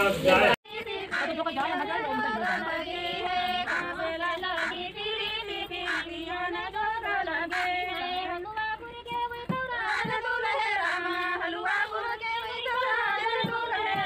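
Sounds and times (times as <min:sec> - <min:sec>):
women singing together: 0:00.2 - 0:14.0.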